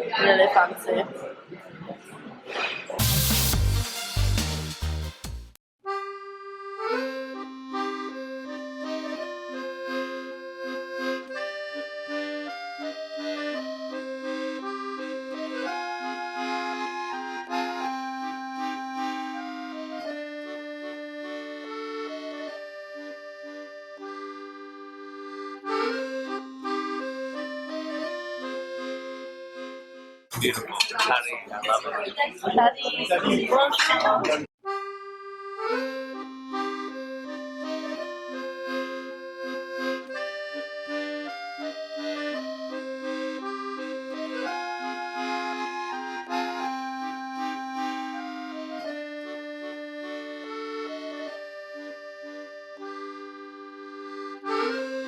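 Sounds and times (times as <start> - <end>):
accordion melody: 3.0 - 30.6, 34.5 - 55.0.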